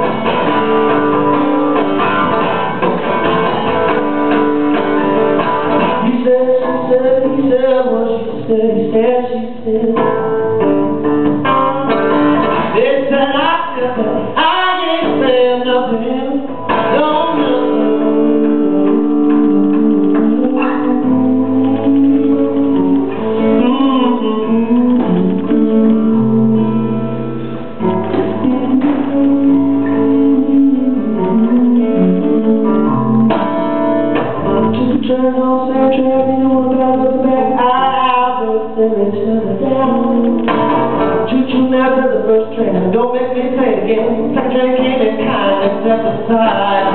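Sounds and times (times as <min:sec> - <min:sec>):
acoustic guitar strumming: 0:00.0 - 0:46.9
man singing: 0:05.7 - 0:27.0, 0:27.8 - 0:33.4, 0:34.4 - 0:46.9.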